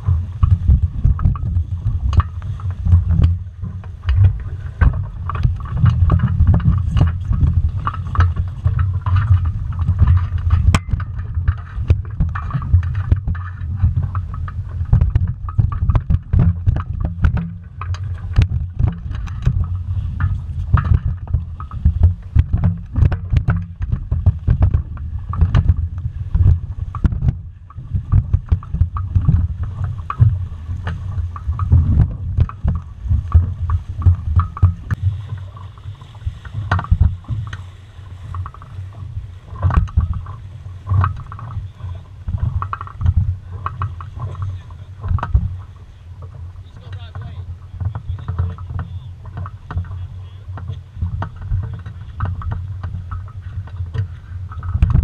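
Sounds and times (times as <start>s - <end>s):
water slapping against hull: 0.0s - 55.0s
wind rumbling on microphone: 0.0s - 55.0s.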